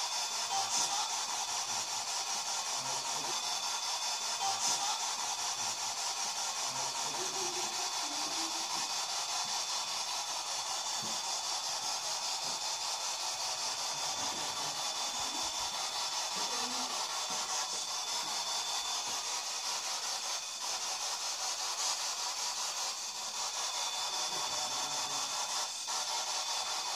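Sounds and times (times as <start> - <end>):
steady hiss: 0.0 - 26.9.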